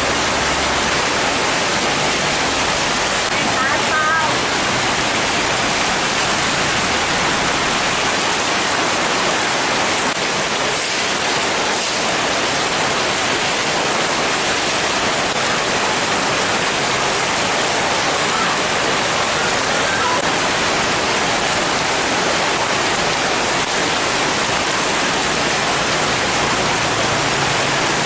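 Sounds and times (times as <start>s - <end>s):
heavy rain on paved street: 0.0s - 28.0s.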